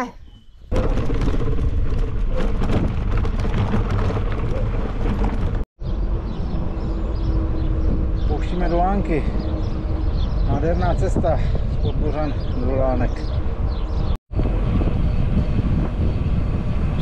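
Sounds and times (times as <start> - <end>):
wind buffeting microphone: 0.6 - 17.0.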